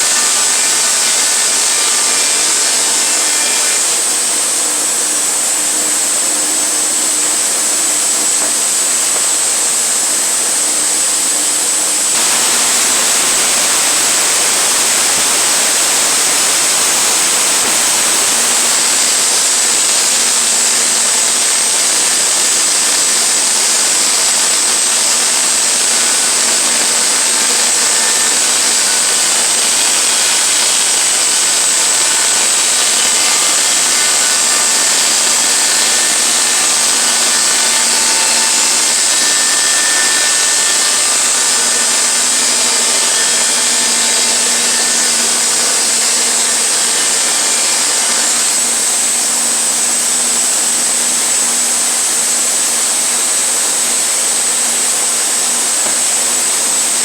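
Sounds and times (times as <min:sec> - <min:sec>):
sawmill blade cutting log: 0:00.0 - 0:57.0.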